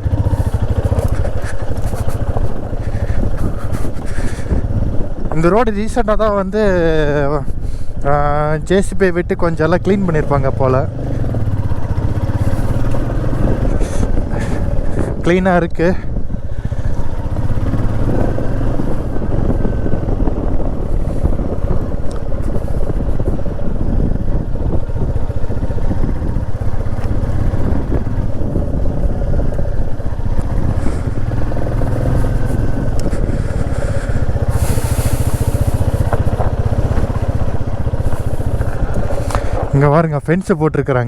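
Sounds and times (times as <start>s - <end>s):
motorcycle engine rumble: 0.0s - 41.0s.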